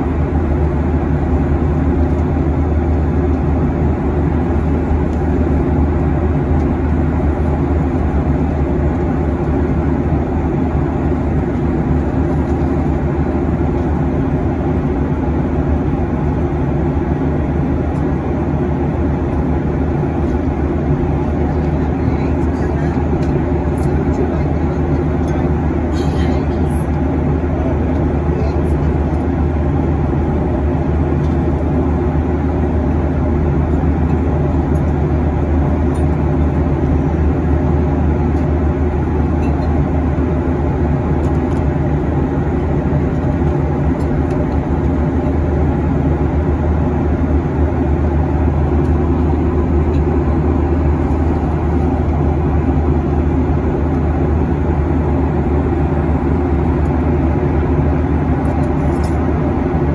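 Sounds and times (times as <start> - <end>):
jet engine hum: 0.0 - 59.9.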